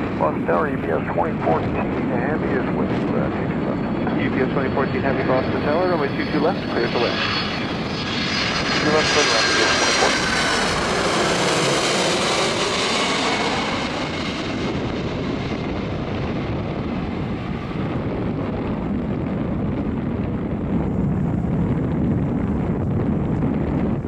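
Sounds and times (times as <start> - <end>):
jet engine whine: 0.0 - 24.0
low jet rumble: 0.0 - 24.0.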